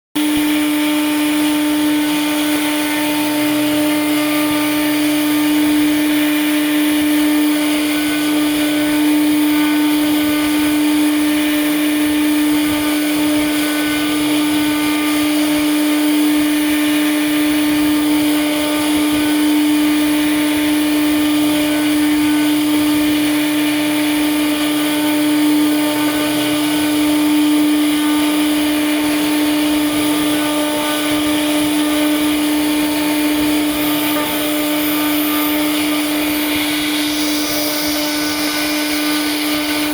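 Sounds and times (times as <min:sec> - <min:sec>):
router spindle whine: 0:00.2 - 0:39.9.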